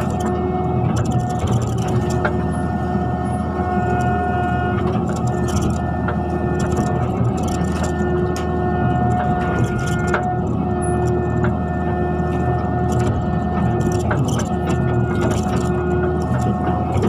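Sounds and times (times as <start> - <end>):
constant whine: 0.0 - 17.0
excavator engine drone: 0.0 - 17.0.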